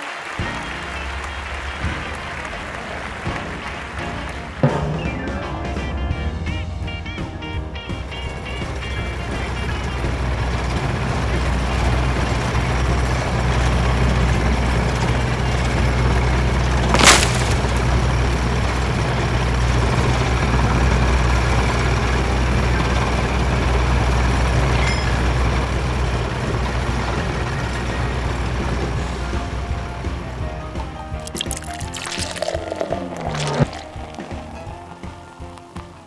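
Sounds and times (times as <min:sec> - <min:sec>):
road roller engine rumbling: 0:00.5 - 0:31.2.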